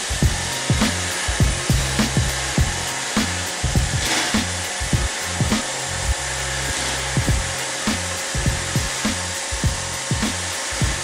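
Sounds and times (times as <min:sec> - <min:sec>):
background music with bass beat: 0:00.0 - 0:11.0
robot vacuum whirring: 0:00.0 - 0:11.0.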